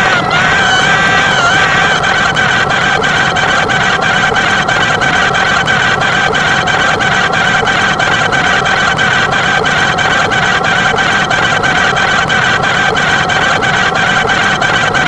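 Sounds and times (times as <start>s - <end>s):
machine running with high tone: 0.0s - 15.0s.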